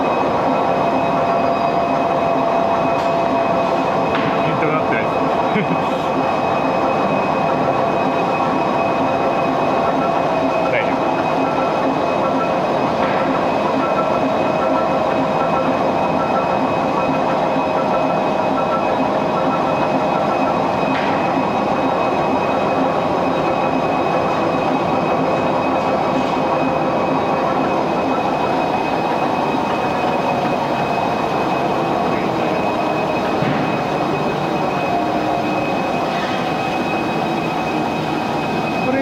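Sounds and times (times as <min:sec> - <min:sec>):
machine whining tones: 0:00.0 - 0:39.0.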